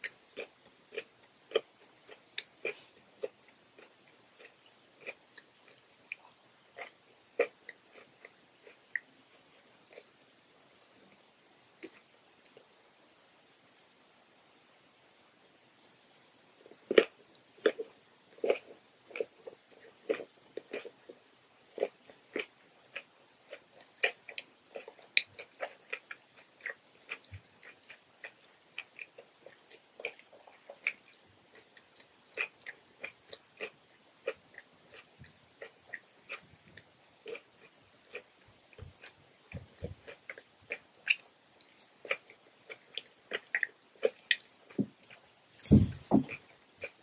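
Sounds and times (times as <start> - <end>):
crisp chewing crunches: 0.0 - 10.2, 16.7 - 47.0.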